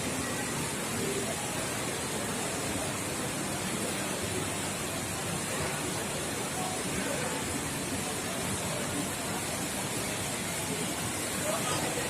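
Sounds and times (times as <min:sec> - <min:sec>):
faint distant voices: 0:00.0 - 0:12.0
steady rushing background noise: 0:00.0 - 0:12.0.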